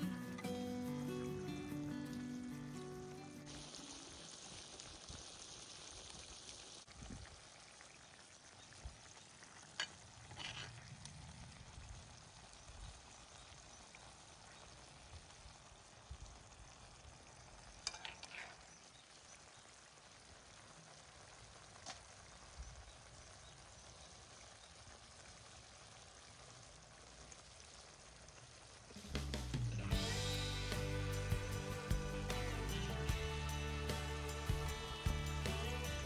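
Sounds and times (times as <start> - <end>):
food sizzling in a skillet: 0.0 - 10.9, 13.0 - 36.0.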